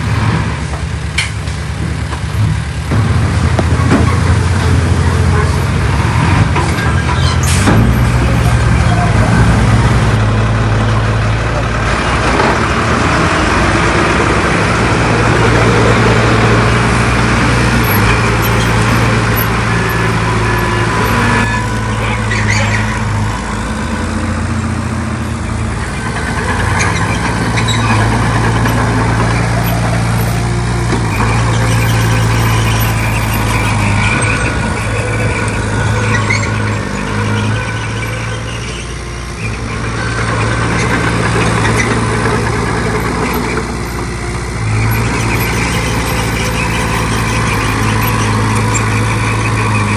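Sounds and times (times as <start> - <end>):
heavy diesel engines running: 0.0 - 49.9.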